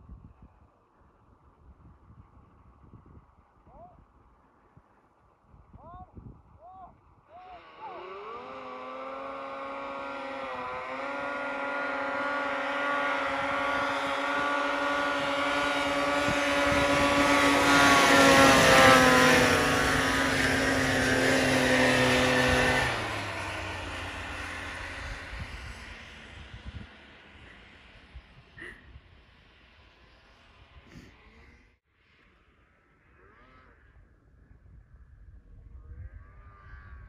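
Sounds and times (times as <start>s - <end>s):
snowmobile engine at high revs: 6.6s - 37.0s.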